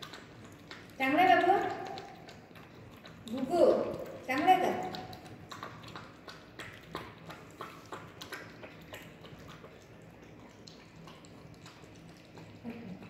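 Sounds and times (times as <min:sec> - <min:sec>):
puppy eating wet food: 0:00.0 - 0:13.0.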